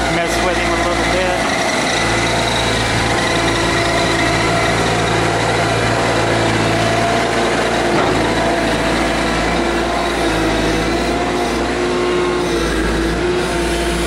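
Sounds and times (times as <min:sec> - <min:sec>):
backhoe engine running: 0:00.0 - 0:14.0.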